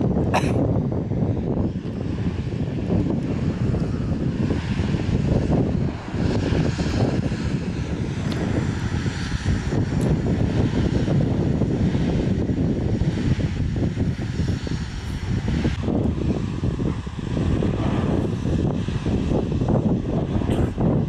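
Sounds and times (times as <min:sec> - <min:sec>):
lava lake roaring: 0:00.0 - 0:21.0
wind buffeting microphone: 0:00.0 - 0:21.0.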